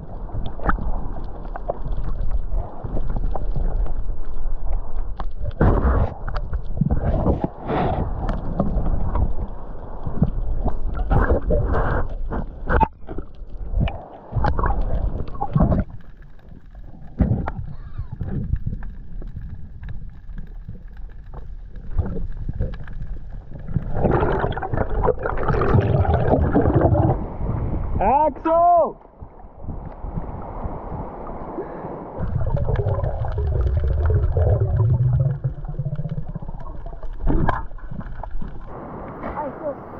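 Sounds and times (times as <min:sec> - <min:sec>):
sharp clicks and knocks underwater: 0:00.0 - 0:27.2, 0:32.2 - 0:38.7
churning water: 0:05.6 - 0:39.9.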